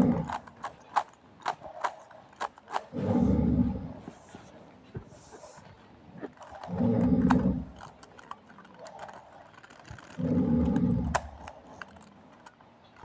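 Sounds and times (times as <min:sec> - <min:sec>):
puzzle cube plastic clicks: 0:00.0 - 0:03.4, 0:05.5 - 0:13.0.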